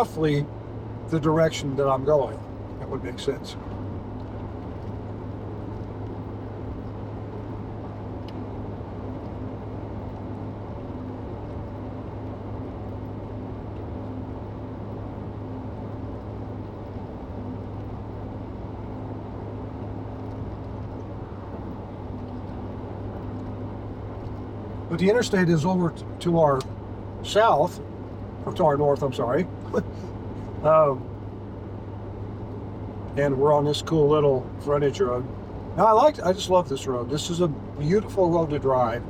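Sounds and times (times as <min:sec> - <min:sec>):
car interior road noise: 0:00.0 - 0:39.0.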